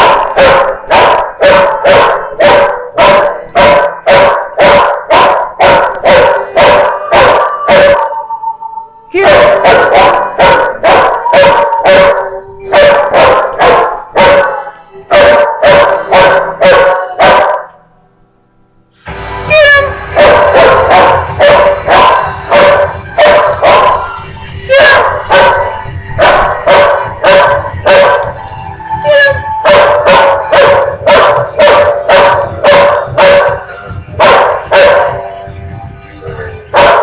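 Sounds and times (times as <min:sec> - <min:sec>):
dog barking: 0:00.0 - 0:08.2, 0:09.2 - 0:17.8, 0:19.6 - 0:28.4, 0:29.2 - 0:35.3, 0:36.7 - 0:37.0.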